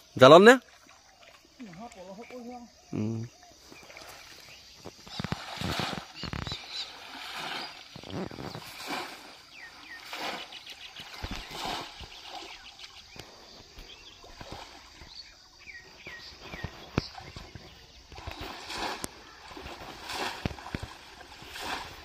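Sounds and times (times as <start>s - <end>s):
birds chirping: 0.0s - 22.0s
person wading through water: 0.0s - 22.0s.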